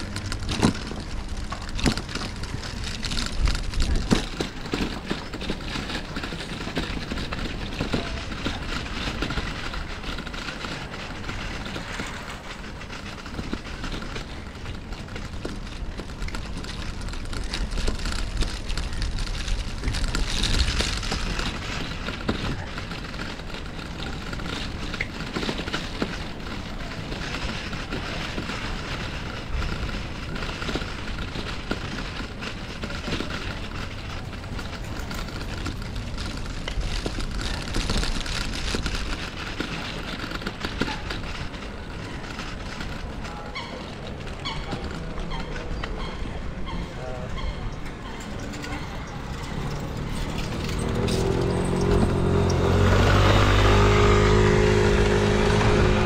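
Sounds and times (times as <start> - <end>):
street ambience: 0.0 - 56.0
tyres rumbling over bricks: 0.0 - 56.0
wind noise: 0.0 - 56.0.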